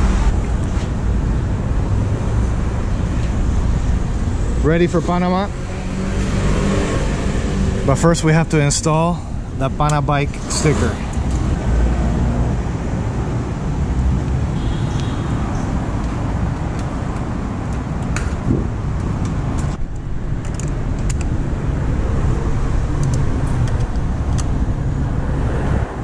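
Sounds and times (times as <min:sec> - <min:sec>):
passing cars: 0:00.0 - 0:26.0.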